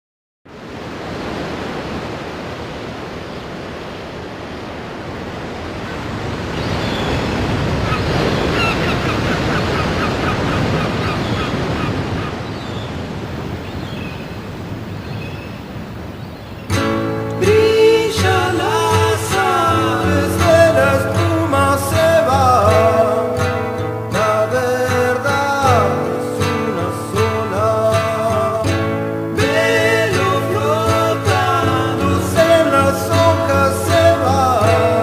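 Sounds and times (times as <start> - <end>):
ocean surf washing ashore: 0.5 - 35.0.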